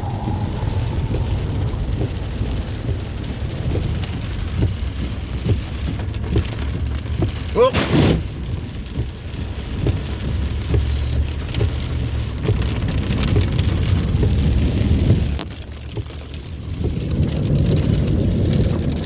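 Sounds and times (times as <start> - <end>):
car tyres through flood water: 0.0 - 19.0
rain and spray on car: 0.0 - 19.0.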